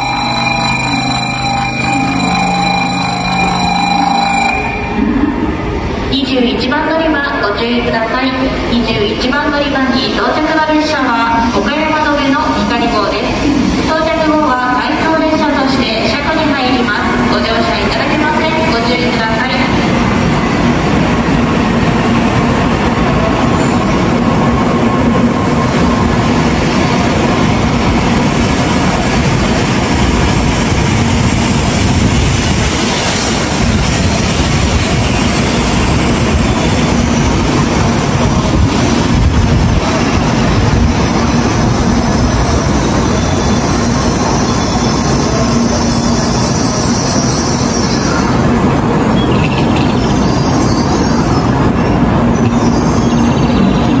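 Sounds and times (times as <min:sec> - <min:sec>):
high-speed train arriving: 0:00.0 - 0:54.0.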